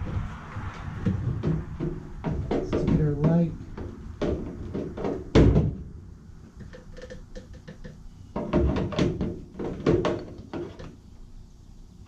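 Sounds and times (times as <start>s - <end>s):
parts knocking and clattering: 0.0s - 11.0s.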